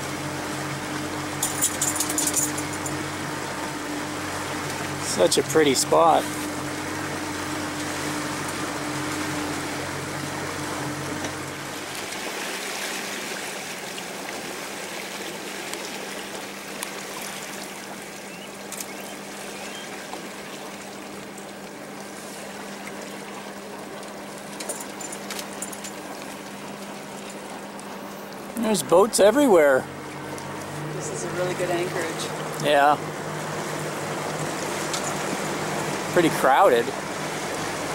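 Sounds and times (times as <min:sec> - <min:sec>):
boat motor humming: 0:00.0 - 0:37.9
water splashing along boat hull: 0:00.0 - 0:37.9.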